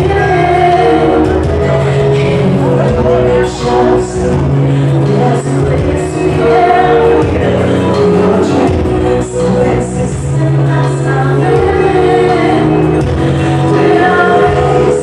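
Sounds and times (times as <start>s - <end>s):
amplified keyboard backing: 0.0s - 15.0s
woman singing into microphone: 0.0s - 15.0s.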